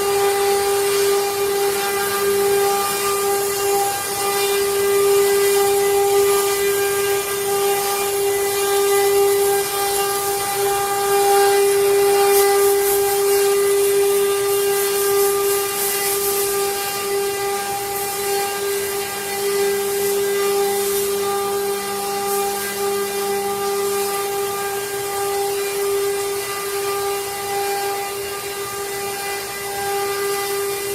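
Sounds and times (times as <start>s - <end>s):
router spindle high whine: 0.0s - 30.9s.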